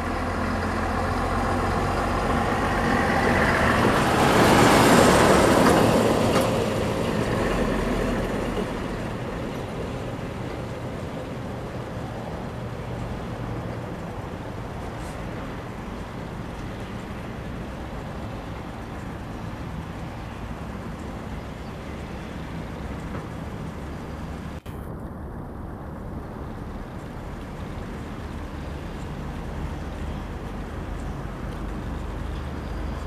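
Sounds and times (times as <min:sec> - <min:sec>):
outdoor rumble and hiss: 0:00.0 - 0:33.0.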